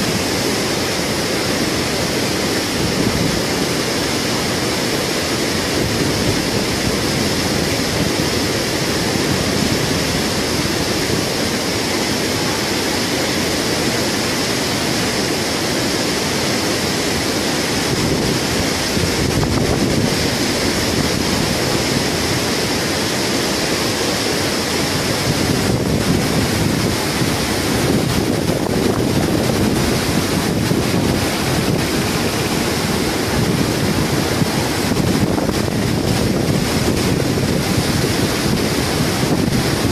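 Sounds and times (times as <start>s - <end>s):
river current rushing: 0.0s - 39.9s.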